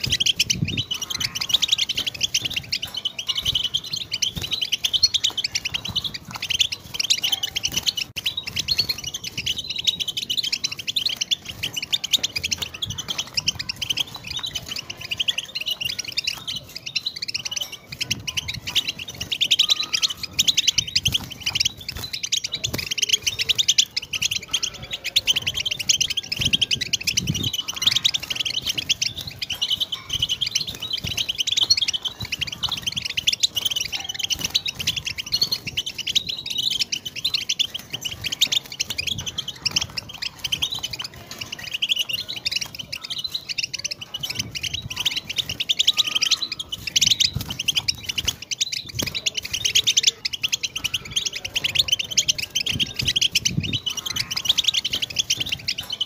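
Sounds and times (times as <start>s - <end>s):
goldfinch singing: 0.0s - 56.0s.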